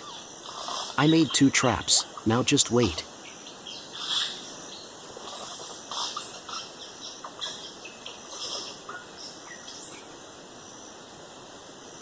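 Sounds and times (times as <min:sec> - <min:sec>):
bird chirps and calls: 0:00.0 - 0:10.0
high insect drone: 0:00.0 - 0:12.0.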